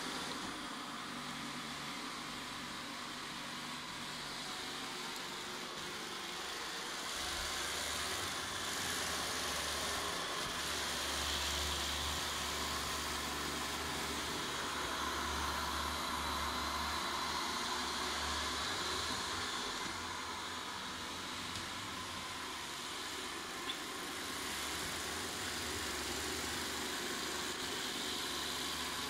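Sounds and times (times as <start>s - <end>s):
robot vacuum whirring: 0.0s - 29.0s.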